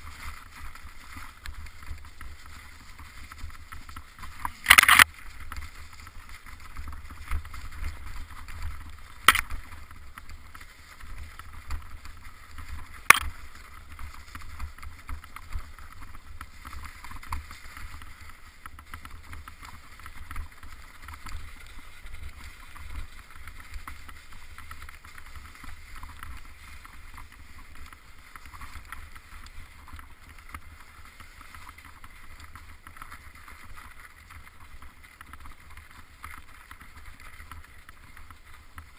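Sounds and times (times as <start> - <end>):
wind rumble on camera: 0.0 - 38.9.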